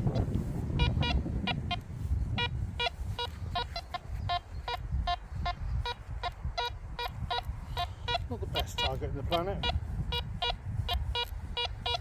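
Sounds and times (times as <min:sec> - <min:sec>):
metal detector beeps: 0:00.8 - 0:01.8, 0:02.4 - 0:12.0.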